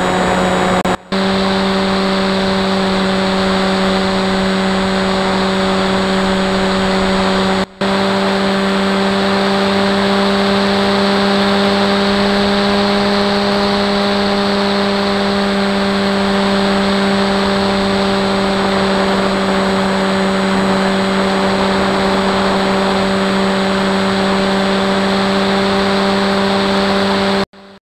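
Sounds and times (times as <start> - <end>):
electric motor propeller humming: 0.0 - 27.8.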